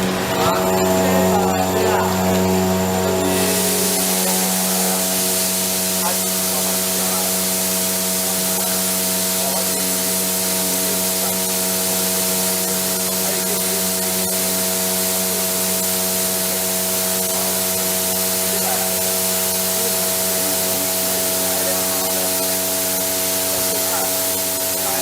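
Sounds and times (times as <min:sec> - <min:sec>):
coolant spray hiss: 0:00.0 - 0:25.0
milling machine cutting hum: 0:00.0 - 0:25.0.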